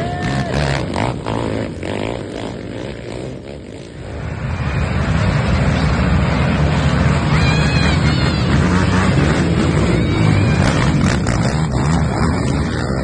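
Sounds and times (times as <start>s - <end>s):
quad engines at high throttle: 0.0s - 13.0s.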